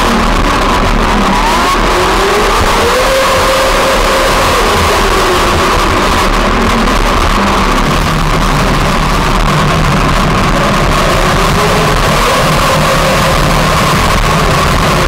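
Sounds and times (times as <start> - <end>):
lawn mower engine running hard: 0.0 - 15.0.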